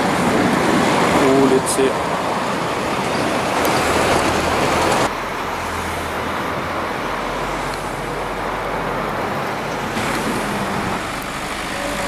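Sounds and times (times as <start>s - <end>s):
low engine hum: 0.0s - 12.0s
road traffic rushing: 0.0s - 12.0s.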